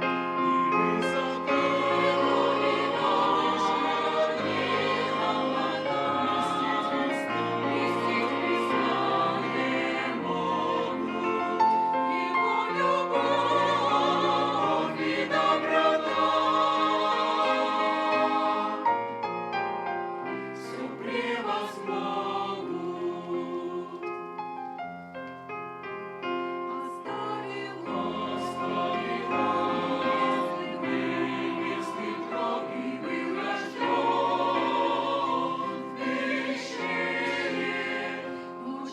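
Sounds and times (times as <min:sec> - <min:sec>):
choir singing a hymn: 0:00.0 - 0:25.0, 0:26.7 - 0:38.9.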